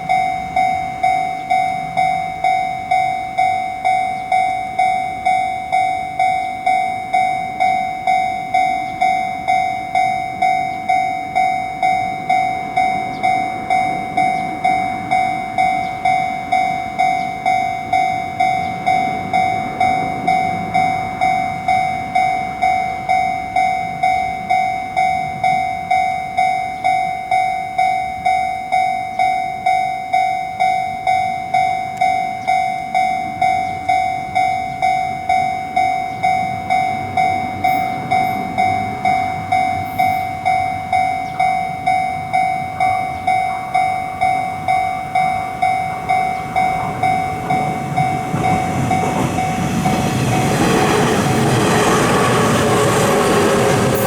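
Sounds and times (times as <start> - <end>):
level crossing alarm bell: 0.0 - 54.0
train passing: 0.0 - 54.0.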